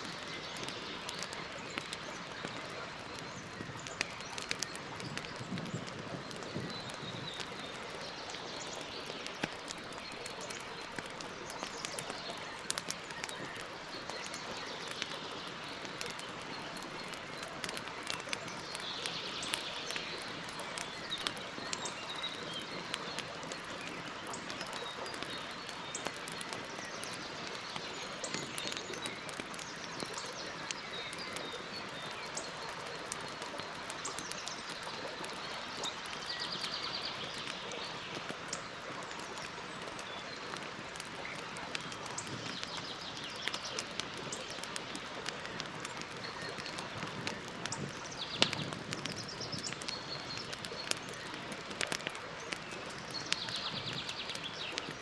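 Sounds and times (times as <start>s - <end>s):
birds chirping: 0.0s - 55.0s
campfire crackling and popping: 0.0s - 55.0s.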